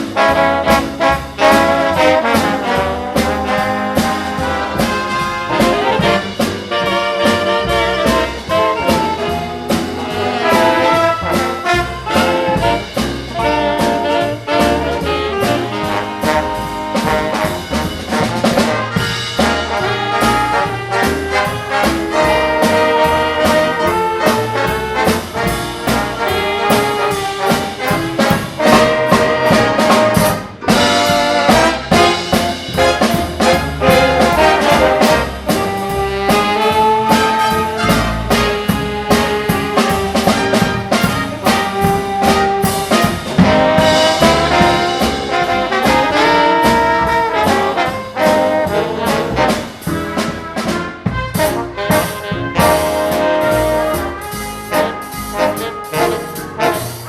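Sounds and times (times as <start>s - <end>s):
big band playing swing music: 0.0s - 57.0s.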